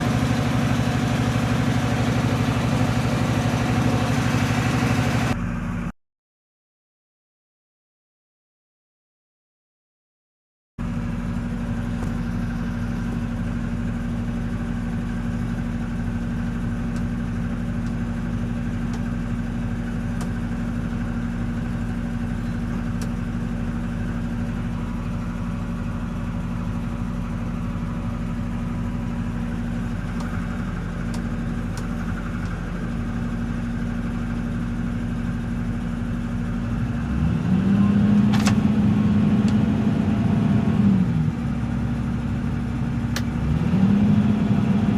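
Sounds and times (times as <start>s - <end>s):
excavator diesel engine running: 0.0s - 5.9s, 10.8s - 44.9s.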